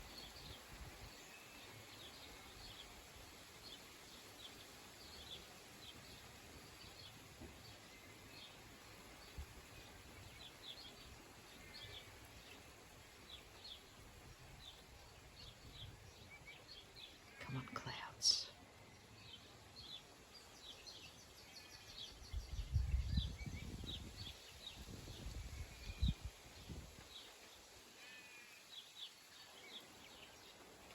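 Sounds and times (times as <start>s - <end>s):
faint steady hiss: 0.0s - 30.9s
small birds chirping: 0.1s - 30.9s.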